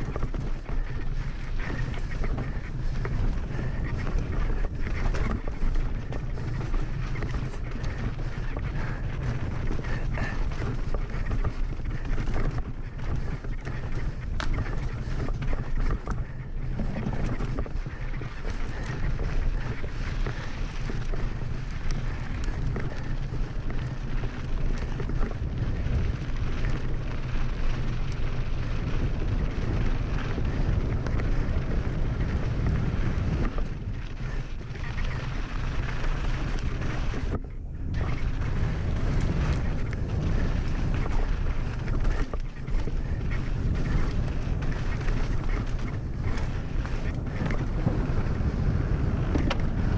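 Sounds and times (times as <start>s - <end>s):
bike tyres rolling on gravel: 0.0s - 49.9s
stones and bike clicking: 0.0s - 49.9s
wind buffeting microphone: 0.0s - 49.9s.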